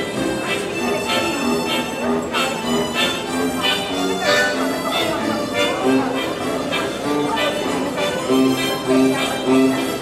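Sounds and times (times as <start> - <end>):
harmonica ensemble playing: 0.0 - 10.0.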